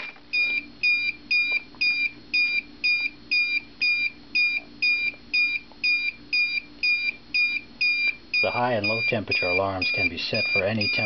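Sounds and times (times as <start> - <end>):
high-pitched alarm beeps: 0.3 - 11.0.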